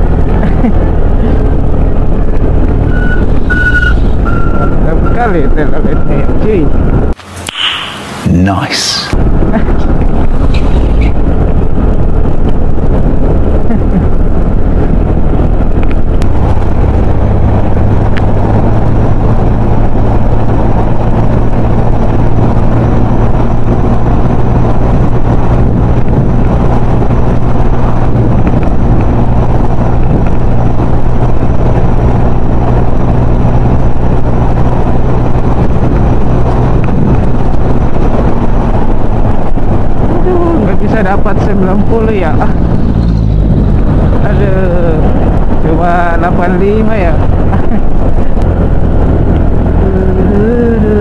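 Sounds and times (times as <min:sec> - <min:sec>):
motorcycle engine running: 0:00.0 - 0:07.2, 0:09.2 - 0:51.0
wind rushing over microphone: 0:00.0 - 0:51.0.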